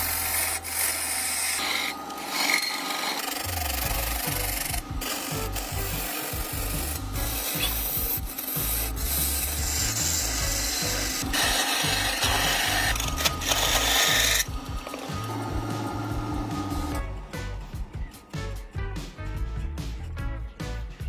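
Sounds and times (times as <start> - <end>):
lathe tool scraping wood: 0.0 - 17.0.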